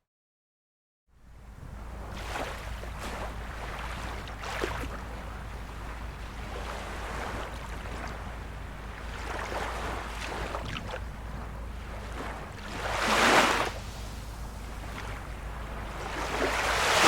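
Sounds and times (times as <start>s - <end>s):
constant low rumble: 1.1s - 17.0s
small waves lapping on shore: 1.2s - 17.0s.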